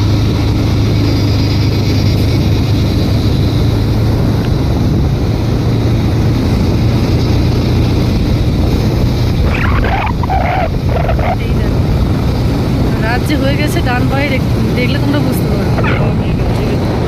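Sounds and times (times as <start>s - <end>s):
road and wind noise: 0.0s - 17.0s
vehicle engine drone: 0.0s - 17.0s.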